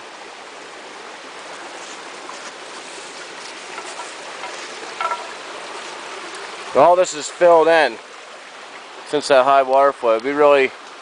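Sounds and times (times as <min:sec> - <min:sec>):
brook flowing over rock: 0:00.0 - 0:11.0.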